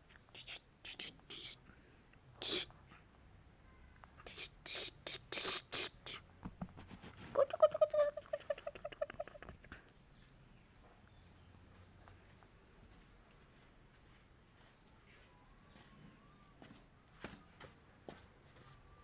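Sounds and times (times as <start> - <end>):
high insect chirps: 0.0 - 6.7, 7.4 - 17.3.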